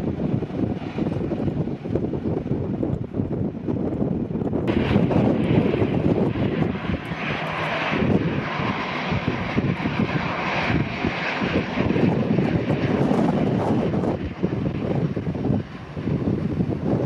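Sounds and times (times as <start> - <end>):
jet engines whining at taxi power: 0.0 - 17.0
wind buffeting microphone: 0.0 - 17.0.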